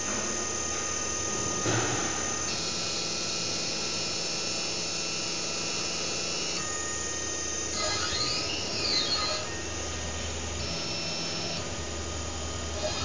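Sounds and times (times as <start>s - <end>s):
machine humming with whining tones: 0.0s - 13.0s.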